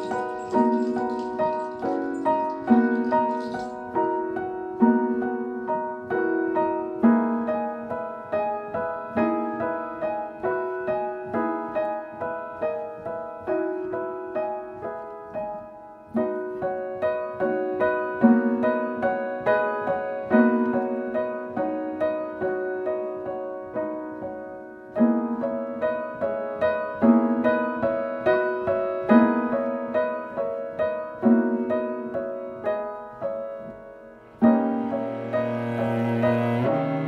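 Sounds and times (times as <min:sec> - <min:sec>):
gentle arpeggiated piano: 0:00.0 - 0:37.0.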